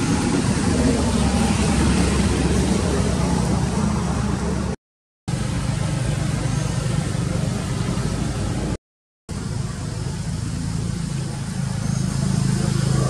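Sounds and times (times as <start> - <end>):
engine-like rumble with hiss: 0.0 - 13.0.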